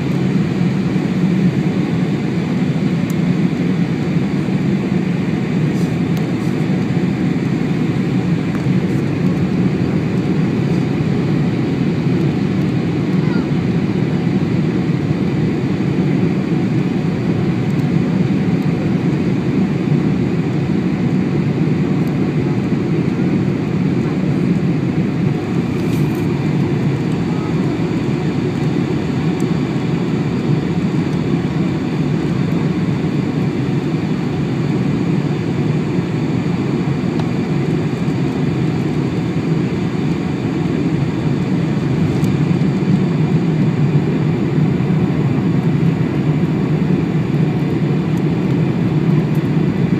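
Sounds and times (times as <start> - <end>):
airplane cabin engine rumble: 0.0 - 49.9.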